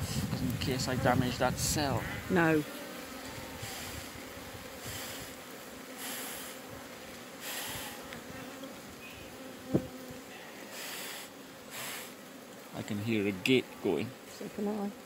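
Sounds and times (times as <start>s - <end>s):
bees buzzing: 0.7s - 15.0s.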